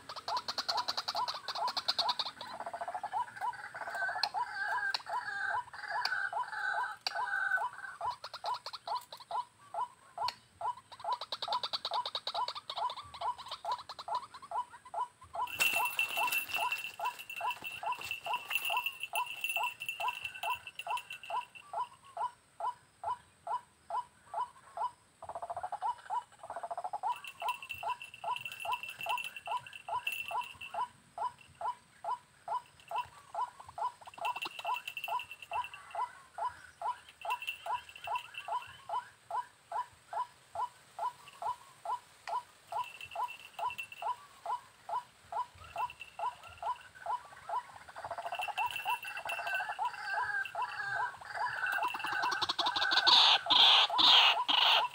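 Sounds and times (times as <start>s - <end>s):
waterhen calling: 0.0s - 23.2s, 24.4s - 54.9s.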